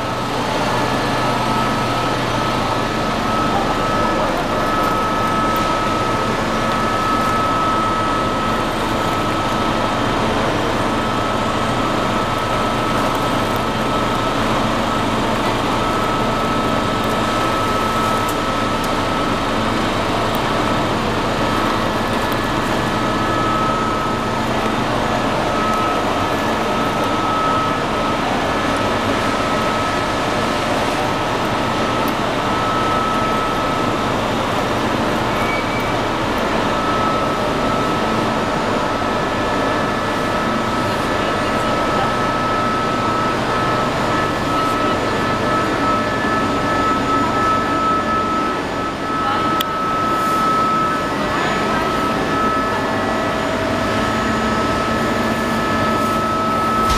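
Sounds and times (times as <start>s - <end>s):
high machine whine: 0.0s - 56.9s
machinery noise: 0.0s - 56.9s.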